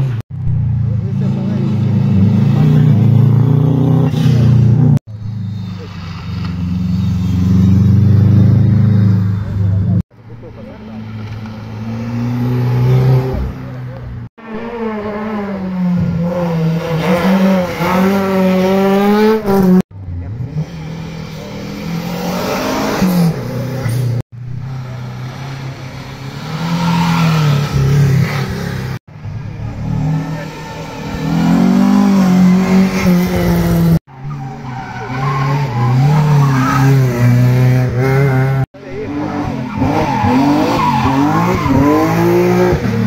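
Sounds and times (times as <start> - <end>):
racing car engines revving: 0.0 - 43.0.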